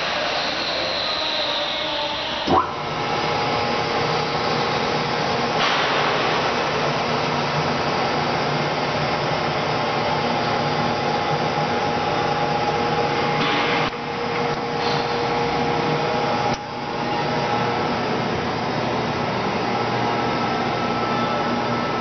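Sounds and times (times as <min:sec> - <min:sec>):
machine whirring hiss and hum: 0:00.0 - 0:22.0.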